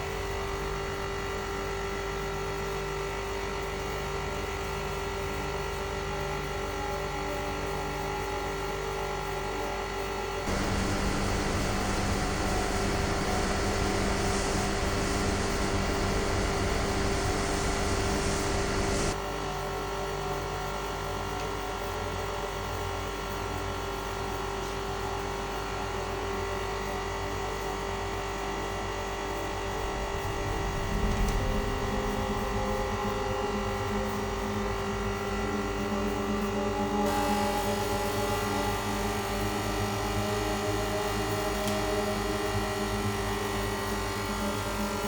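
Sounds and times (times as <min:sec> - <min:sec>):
motor-generator hum and whine: 0:00.0 - 0:45.0.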